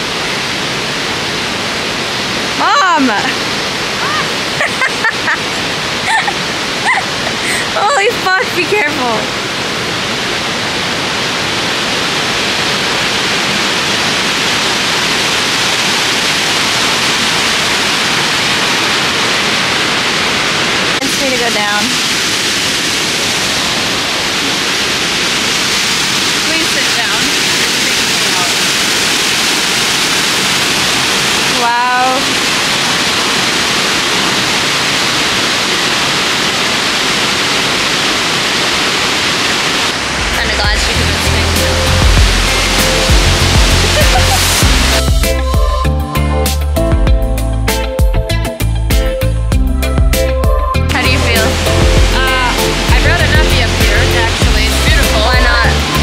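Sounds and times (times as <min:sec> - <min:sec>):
waterfall rushing: 0:00.0 - 0:45.9, 0:50.4 - 0:56.0.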